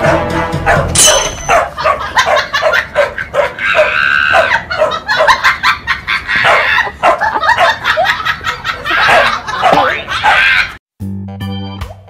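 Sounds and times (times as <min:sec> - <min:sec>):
dogs yelping and squealing: 0:00.7 - 0:10.8.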